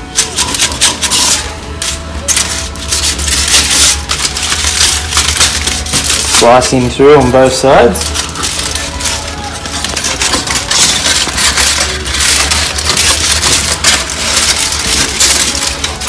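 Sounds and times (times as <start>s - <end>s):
knife scraping fish scales: 0.1s - 6.5s, 8.0s - 16.0s.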